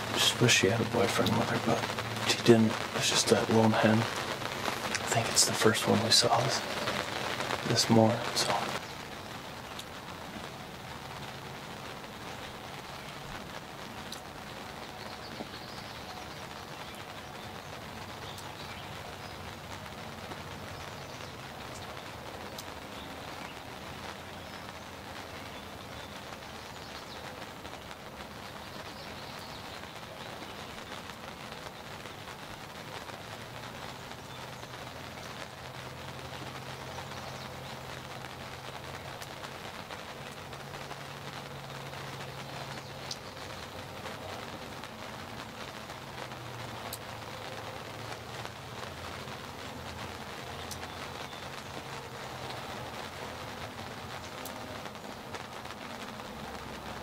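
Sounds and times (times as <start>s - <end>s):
light rain on fabric roof: 0.0s - 57.0s.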